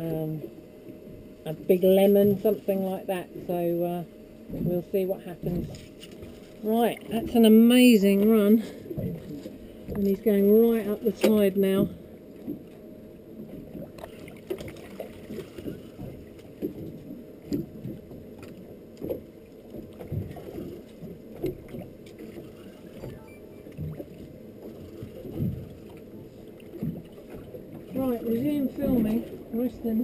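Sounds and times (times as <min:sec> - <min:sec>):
water lapping against hull: 0:00.0 - 0:30.0.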